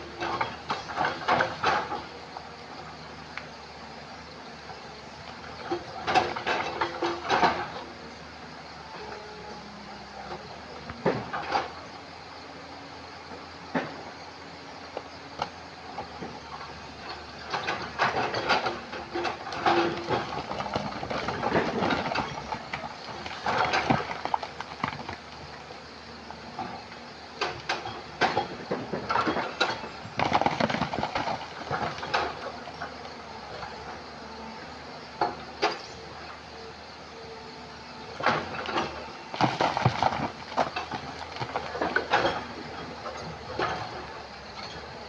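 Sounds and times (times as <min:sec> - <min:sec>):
excavator engine running: 0:00.0 - 0:45.0.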